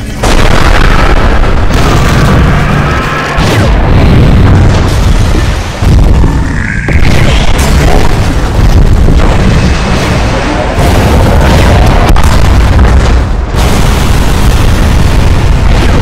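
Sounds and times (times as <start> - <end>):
deep booming explosion rumble: 0.0 - 16.0.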